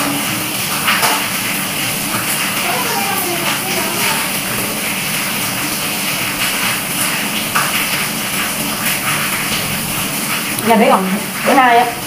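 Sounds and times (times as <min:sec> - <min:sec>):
light rain: 0:00.0 - 0:12.0.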